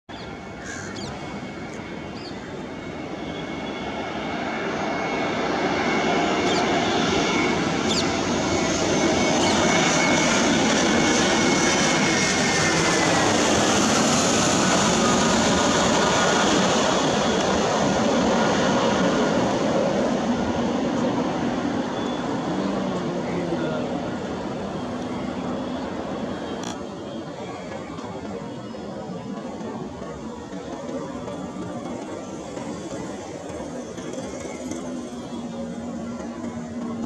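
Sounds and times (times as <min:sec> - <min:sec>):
jet engines whining: 0:00.1 - 0:37.0.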